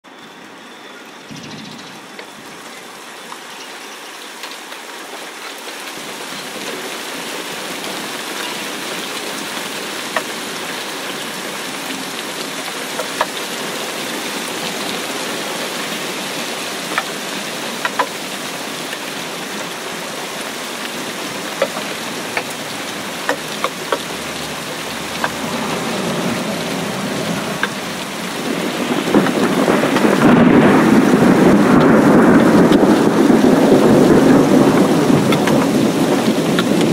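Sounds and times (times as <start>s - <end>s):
rain falling on water: 0.0s - 36.9s.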